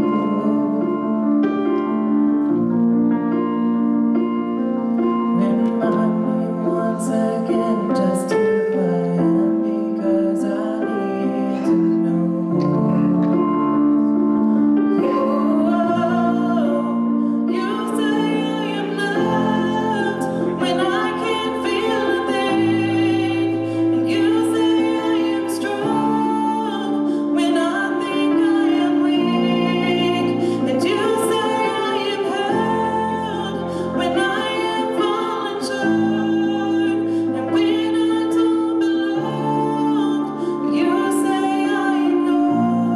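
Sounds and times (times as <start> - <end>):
woman singing: 0.0 - 1.9, 5.1 - 42.9
piano accompaniment: 0.0 - 42.9.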